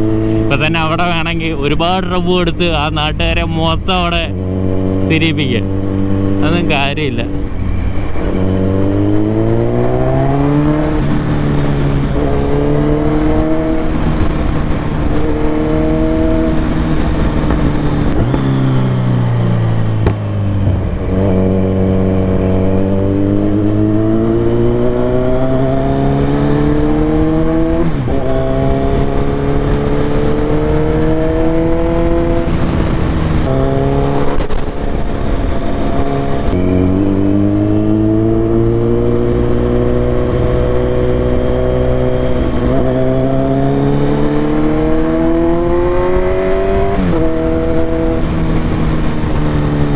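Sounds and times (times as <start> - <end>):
motorcycle engine shifting gears: 4.3 - 49.9.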